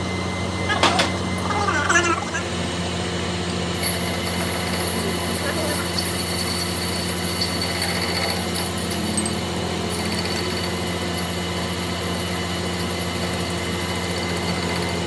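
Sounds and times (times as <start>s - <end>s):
workshop machine humming: 0.0s - 15.0s.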